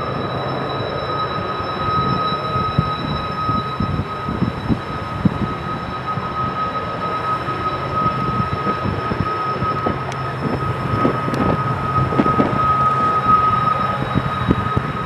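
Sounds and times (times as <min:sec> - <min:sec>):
diesel locomotive engines rumbling: 0:00.0 - 0:15.0
high whine: 0:00.0 - 0:15.0.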